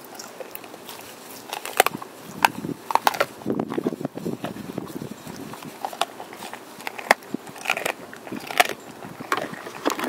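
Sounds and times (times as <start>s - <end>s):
dog crunching bone: 0.0s - 10.0s.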